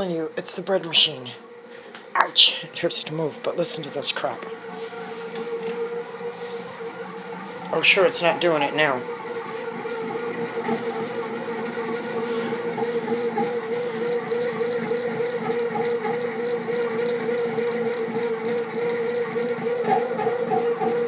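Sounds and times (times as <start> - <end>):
bread machine mechanical whine: 0.0 - 21.0.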